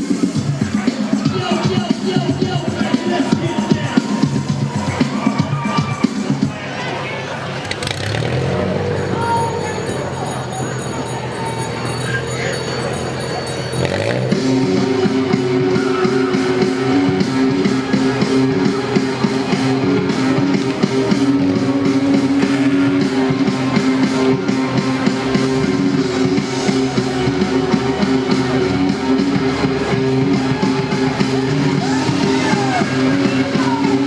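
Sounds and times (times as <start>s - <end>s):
rock music over pa system: 0.0s - 34.0s.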